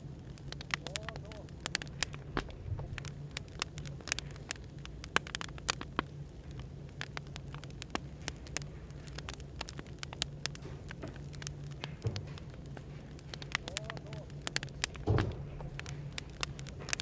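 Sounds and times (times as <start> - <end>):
cafe background hum: 0.0 - 17.0
firewood crackling and popping: 0.0 - 17.0.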